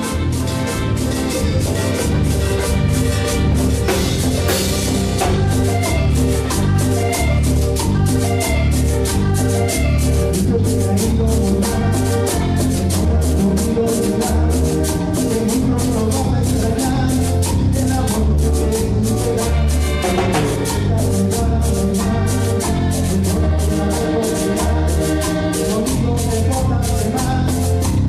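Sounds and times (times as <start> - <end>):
conga drum: 0.0 - 28.0
latin dance band music: 0.0 - 28.0.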